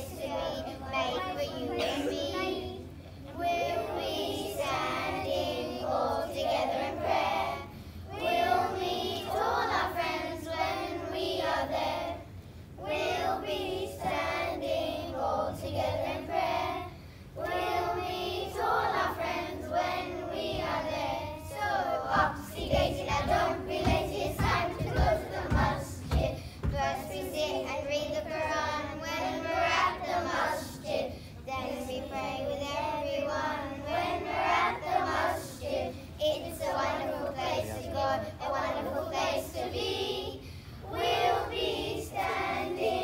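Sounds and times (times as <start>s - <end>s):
children singing together: 0.0s - 43.0s.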